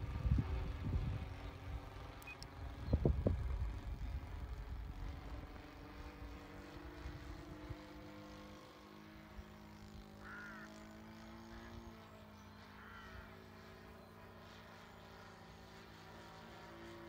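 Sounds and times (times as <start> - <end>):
model plane engine drone: 0.0 - 17.0.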